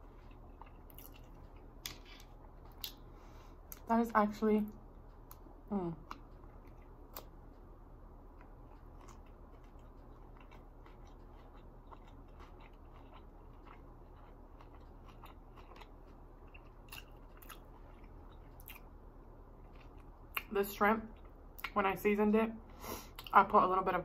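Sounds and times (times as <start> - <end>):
chewing food close-up: 0.0 - 3.1, 4.7 - 21.8
steady low hum: 0.0 - 24.0.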